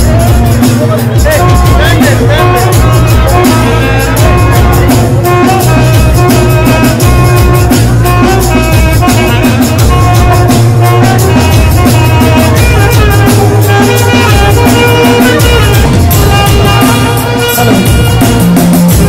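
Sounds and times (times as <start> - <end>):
alto saxophone melody: 0.0 - 19.0
drum and bass backing beat: 0.0 - 19.0
electronic keyboard: 0.0 - 19.0.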